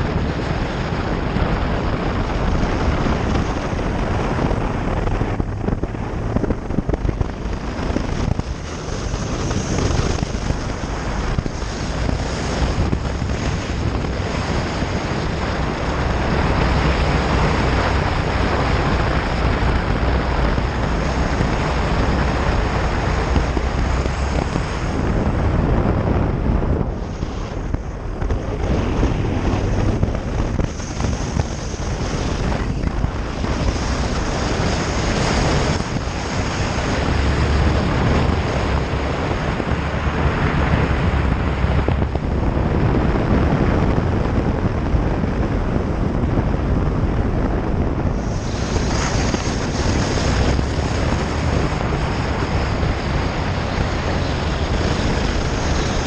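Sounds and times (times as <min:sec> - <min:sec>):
motorcycle engine drone: 0:00.0 - 0:56.0
wind rushing over microphone: 0:00.0 - 0:56.0.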